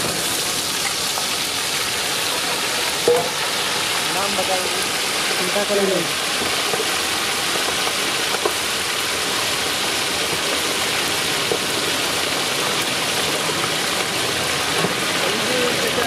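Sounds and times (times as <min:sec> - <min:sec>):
oil sizzling and bubbling: 0:00.0 - 0:16.0.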